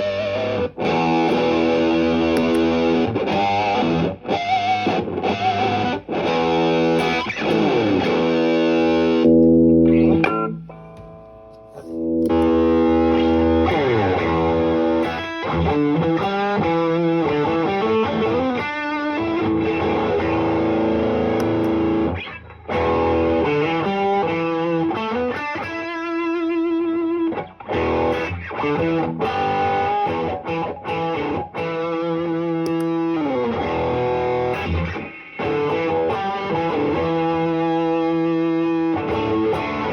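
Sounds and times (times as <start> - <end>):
electric guitar chords and notes: 0.0 - 39.9.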